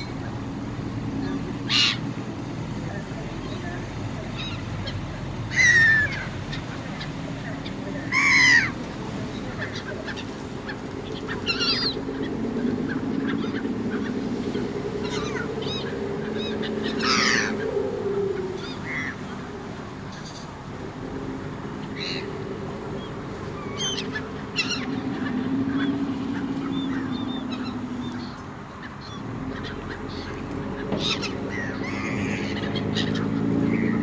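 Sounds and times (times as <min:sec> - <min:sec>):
gulls calling: 0:00.0 - 0:34.0
low wavering hum: 0:00.0 - 0:34.0.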